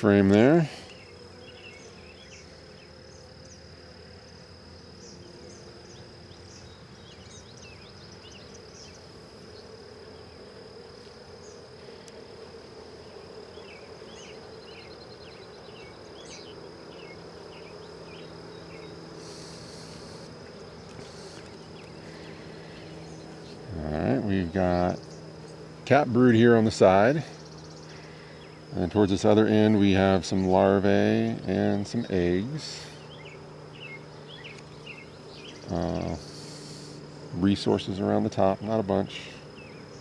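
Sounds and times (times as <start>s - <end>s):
bees buzzing: 0.0s - 40.0s
thin high whine: 0.0s - 40.0s.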